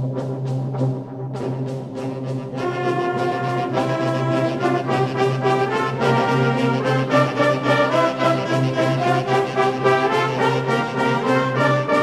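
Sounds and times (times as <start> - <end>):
brass band playing a waltz: 1.4 - 12.0.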